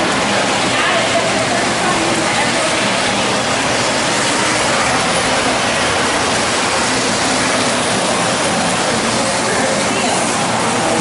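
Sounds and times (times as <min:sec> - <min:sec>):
exhibit hall background din: 0:00.0 - 0:11.0.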